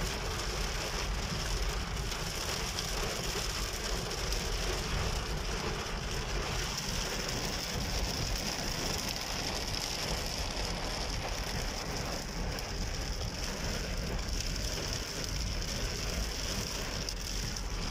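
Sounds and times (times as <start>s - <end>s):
heavy rain on a car: 0.0s - 17.9s
low road rumble: 0.0s - 17.9s.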